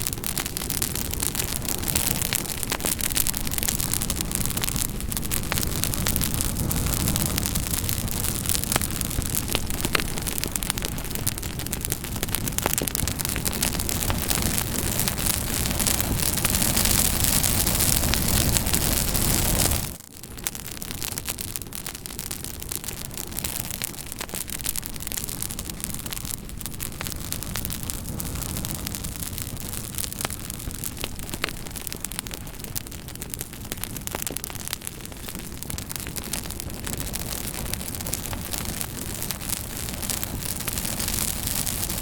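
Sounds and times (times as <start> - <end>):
burning wood crackling and popping: 0.0 - 42.0
campfire hissing: 0.0 - 42.0.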